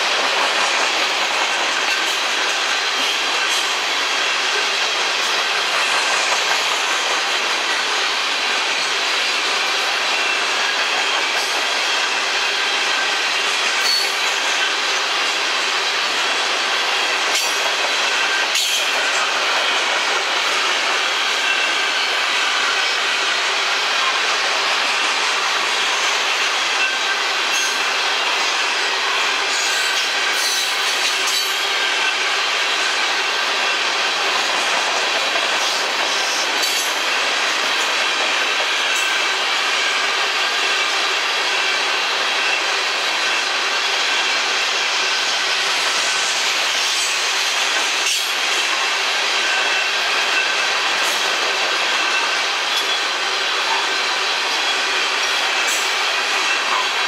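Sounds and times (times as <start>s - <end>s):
steel wheels rushing on rail: 0.0s - 57.0s.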